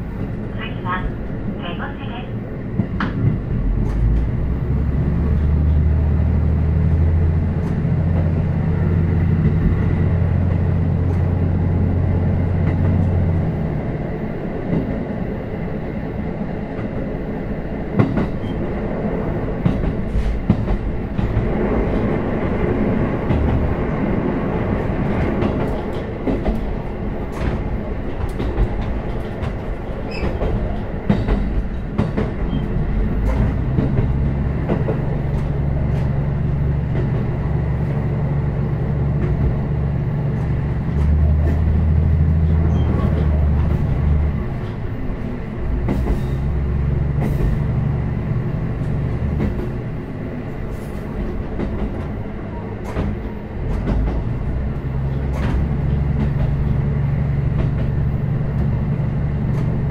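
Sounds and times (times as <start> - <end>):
diesel railcar engine droning: 0.0 - 59.9
wheels rumbling on rail: 0.0 - 59.9
clacks over rail joints: 2.8 - 5.9, 6.6 - 13.5, 17.9 - 18.8, 19.6 - 59.9.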